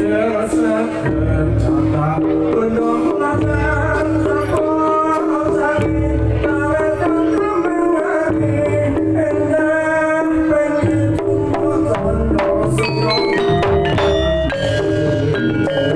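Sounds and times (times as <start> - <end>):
hand drum strokes: 0.0 - 15.9.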